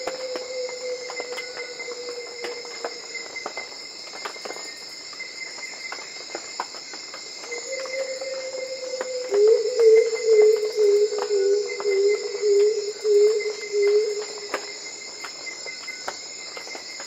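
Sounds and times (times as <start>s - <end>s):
insect chorus buzzing: 0.0s - 17.0s
insect ticks: 0.0s - 17.0s.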